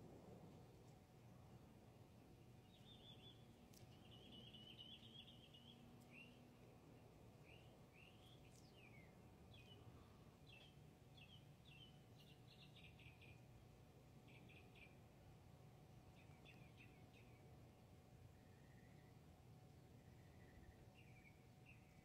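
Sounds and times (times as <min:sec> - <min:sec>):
low background noise: 0:00.0 - 0:22.0
songbird chirping: 0:00.0 - 0:22.0.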